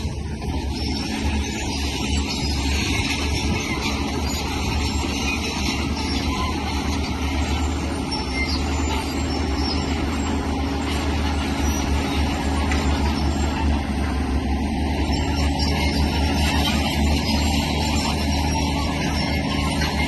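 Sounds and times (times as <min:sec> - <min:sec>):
diesel engine rumbling under load: 0:00.0 - 0:20.0.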